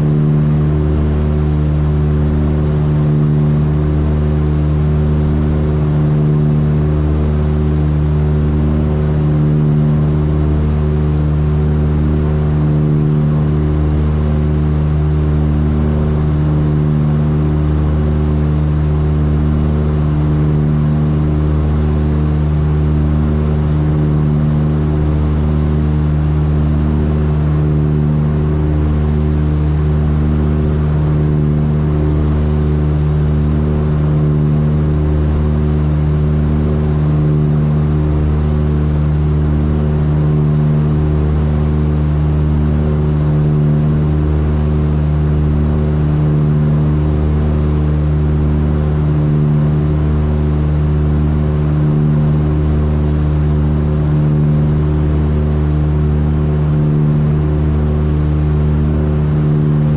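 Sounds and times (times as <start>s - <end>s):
aircraft engines droning in flight: 0.0s - 59.9s.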